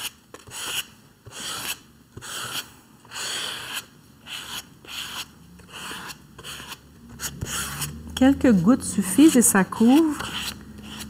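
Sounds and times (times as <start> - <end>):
plastic card scraping paint on paper: 0.0 - 8.0, 9.0 - 11.0.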